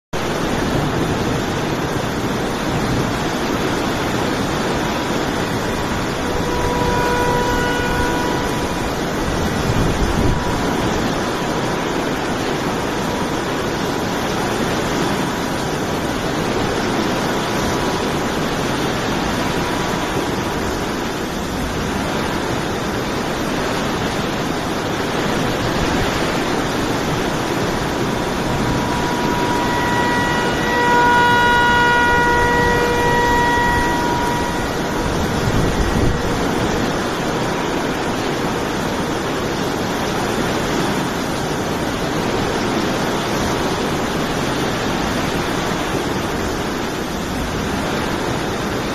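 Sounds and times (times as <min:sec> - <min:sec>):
hurricane wind blowing: 0:00.1 - 0:48.9.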